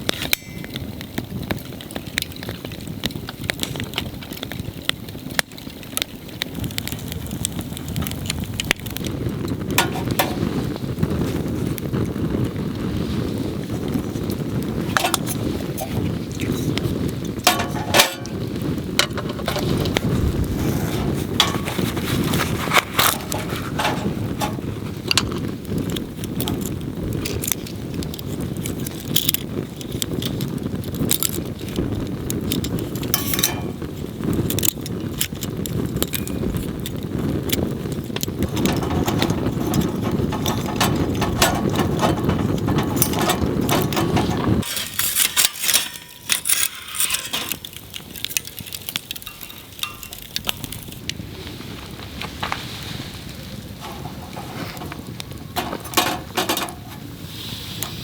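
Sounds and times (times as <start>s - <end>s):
low fire rumble: 0.0s - 58.0s
wood fire crackling and popping: 0.0s - 58.0s.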